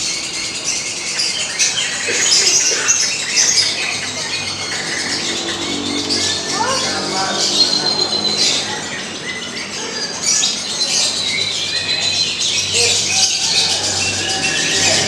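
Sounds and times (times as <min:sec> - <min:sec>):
lovebirds chattering: 0:00.0 - 0:15.0.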